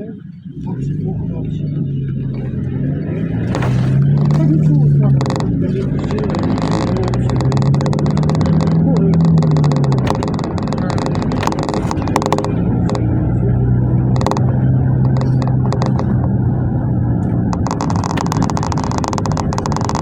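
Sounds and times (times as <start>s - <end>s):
minibus engine drone: 0.0s - 20.0s
road noise: 0.0s - 20.0s
rattles: 2.3s - 20.0s.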